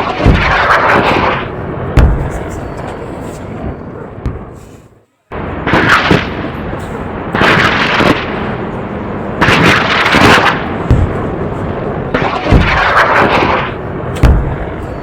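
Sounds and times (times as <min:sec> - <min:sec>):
deep booms: 0:00.0 - 0:03.0, 0:03.6 - 0:04.7, 0:05.3 - 0:15.0
gunfire: 0:00.0 - 0:03.1, 0:05.3 - 0:08.7, 0:09.4 - 0:15.0
continuous rumbling din: 0:00.0 - 0:15.0
explosions: 0:00.0 - 0:15.0.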